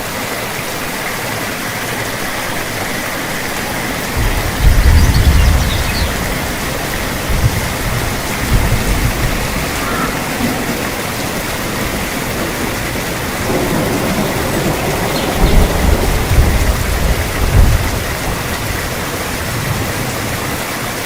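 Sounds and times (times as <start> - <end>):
steady rain: 0.0 - 21.0
thunder rumbling: 2.3 - 20.7.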